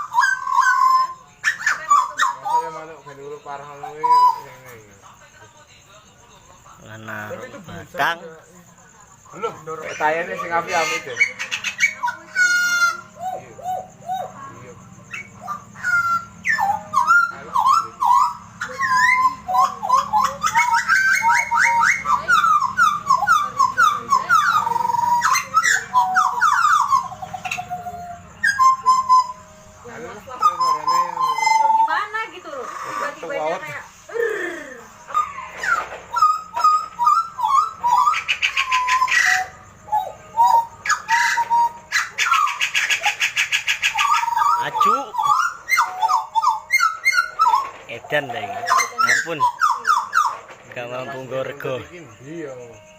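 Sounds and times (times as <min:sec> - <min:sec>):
bird singing whistled notes: 0:00.0 - 0:05.1, 0:06.8 - 0:34.0, 0:35.0 - 0:52.9.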